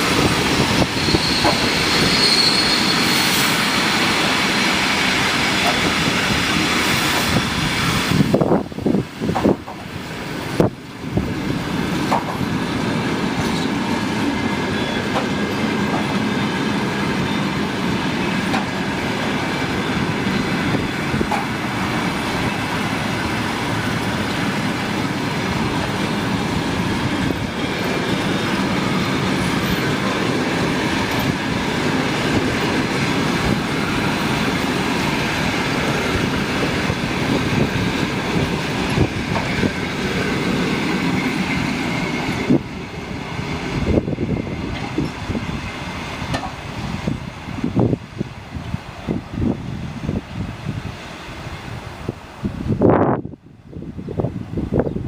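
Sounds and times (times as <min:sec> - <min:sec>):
train wheels clattering on rails: 0:00.0 - 0:47.8.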